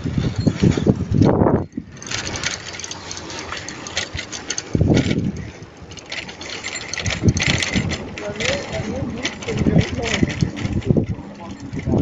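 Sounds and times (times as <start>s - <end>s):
wind buffeting microphone: 0.0s - 12.0s
camera clicking and rattling: 0.6s - 12.0s.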